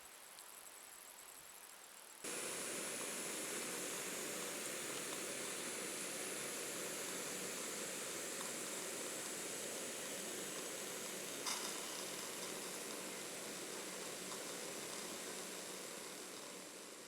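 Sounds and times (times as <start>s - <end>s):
steady hissing rush: 2.2s - 17.0s.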